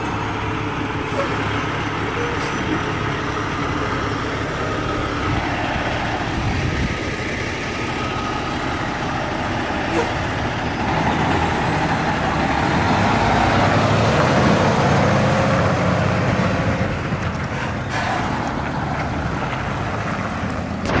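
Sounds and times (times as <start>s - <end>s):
diesel truck passing: 0.0s - 21.0s.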